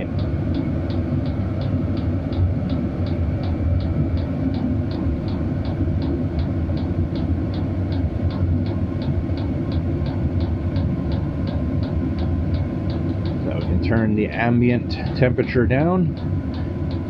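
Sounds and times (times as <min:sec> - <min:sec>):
air heater droning: 0:00.0 - 0:17.0
fuel pump ticking: 0:00.0 - 0:17.0.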